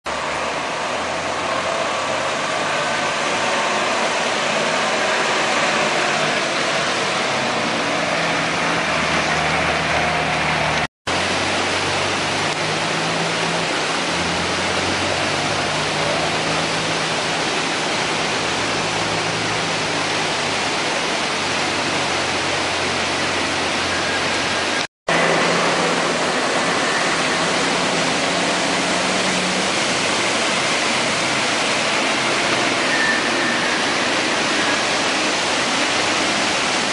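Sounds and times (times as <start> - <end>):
river rushing: 0.1 - 36.9.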